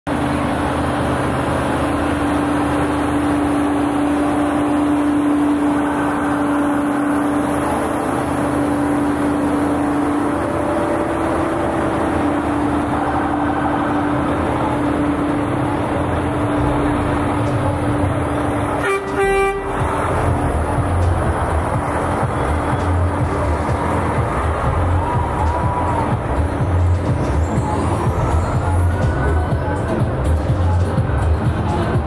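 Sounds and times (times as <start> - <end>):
diesel vehicles driving past: 0.1 - 32.0.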